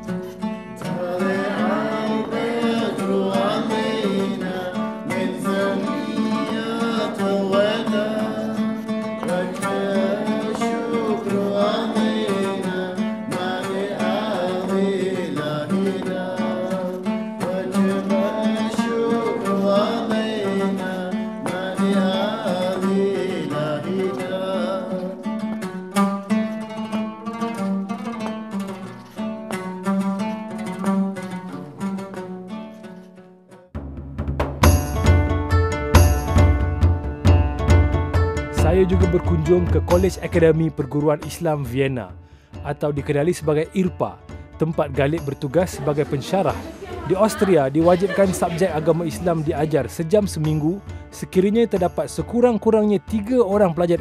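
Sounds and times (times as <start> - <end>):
plucked strings: 0.0 - 54.0.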